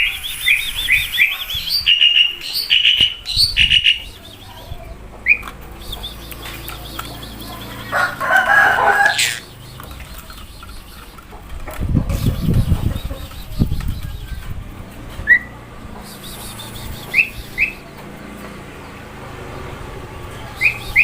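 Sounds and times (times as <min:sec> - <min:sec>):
starling chirping and calling: 0:00.0 - 0:21.0.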